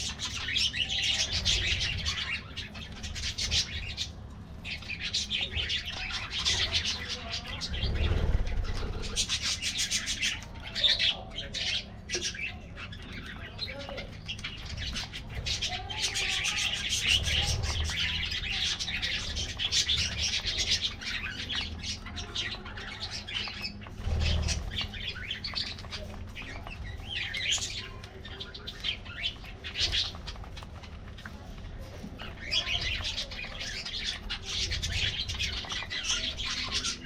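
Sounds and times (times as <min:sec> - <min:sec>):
budgerigars chirping: 0:00.0 - 0:30.9, 0:32.2 - 0:37.0.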